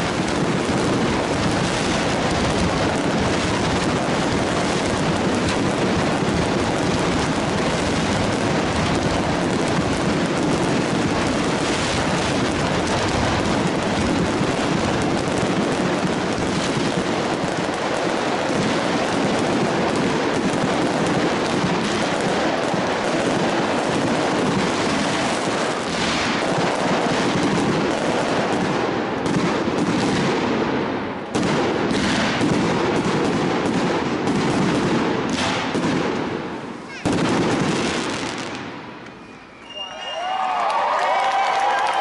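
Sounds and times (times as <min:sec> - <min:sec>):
fireworks crackling and banging: 0:00.0 - 0:42.0.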